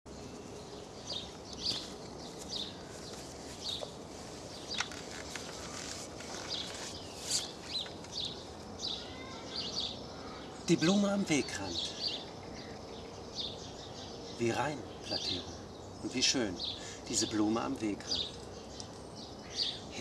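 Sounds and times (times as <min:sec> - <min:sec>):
birds chirping: 0:00.1 - 0:20.0
outdoor hiss: 0:00.1 - 0:20.0.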